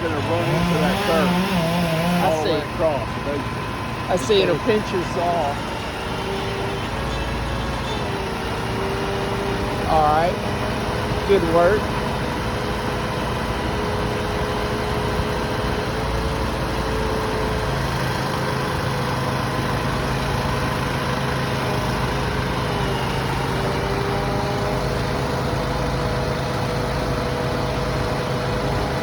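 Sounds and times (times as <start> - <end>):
machinery engines idling: 0.0 - 29.0.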